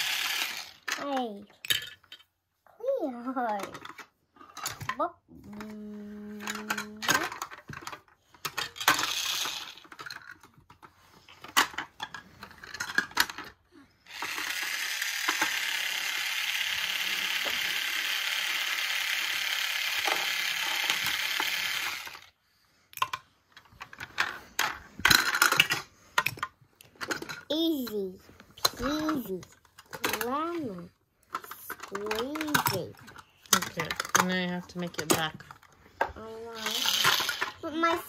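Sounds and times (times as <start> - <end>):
toy whirring: 0.0 - 2.0, 2.8 - 38.0
plastic toy parts clicking: 0.0 - 2.2, 3.5 - 22.3, 22.9 - 28.0, 28.6 - 38.0.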